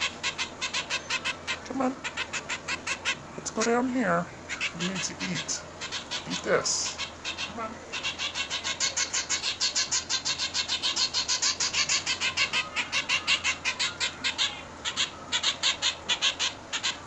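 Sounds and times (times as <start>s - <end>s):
finch fledgling chirping: 0.0s - 17.0s.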